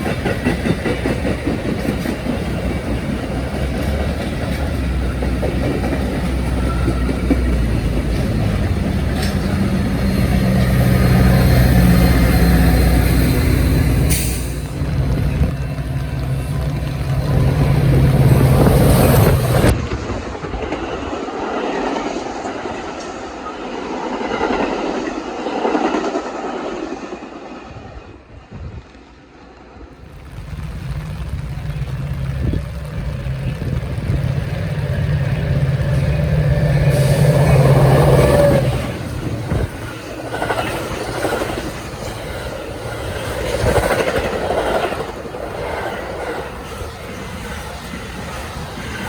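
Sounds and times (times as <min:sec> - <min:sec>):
diesel locomotive drone: 0:00.0 - 0:49.0
rumble and clatter of train cars: 0:00.0 - 0:49.0
train rolling by: 0:00.0 - 0:49.0.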